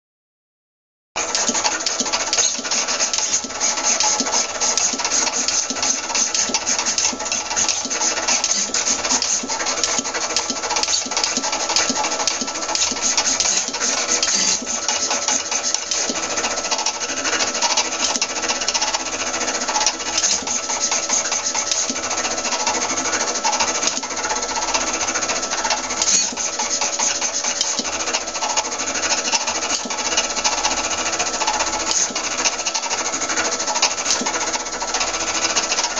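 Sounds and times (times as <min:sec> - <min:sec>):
pen plotter buzzing rattle: 0:01.2 - 0:35.9.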